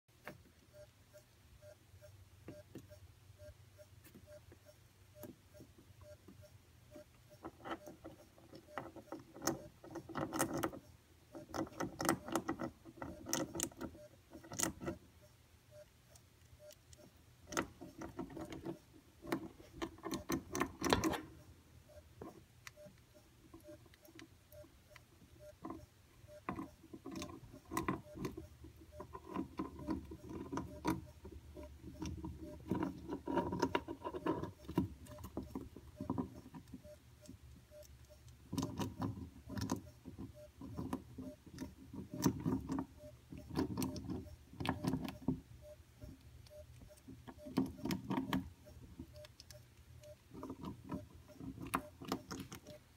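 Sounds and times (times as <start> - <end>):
squirrel gnawing crunching: 6.9 - 15.1, 15.8 - 52.9.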